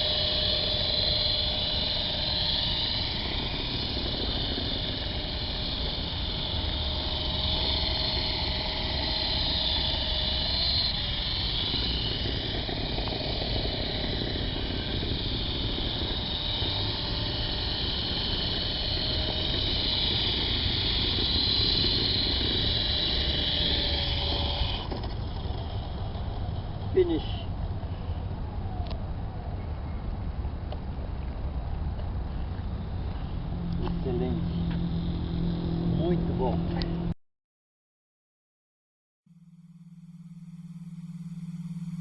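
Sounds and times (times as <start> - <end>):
helicopter motor and rotor whine: 0.0 - 37.2, 39.4 - 42.0.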